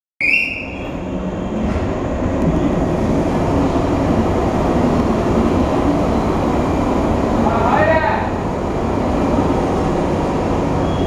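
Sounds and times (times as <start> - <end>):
electric train rumble and hum: 0.2 - 11.0.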